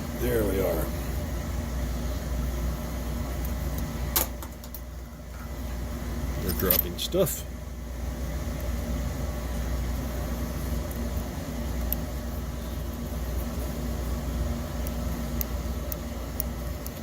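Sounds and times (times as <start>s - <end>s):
furnace rumbling: 0.0s - 17.0s.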